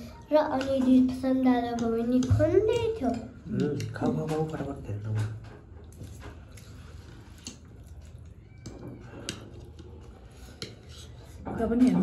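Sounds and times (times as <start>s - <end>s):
forks clicking and scraping plates: 0.4s - 12.0s.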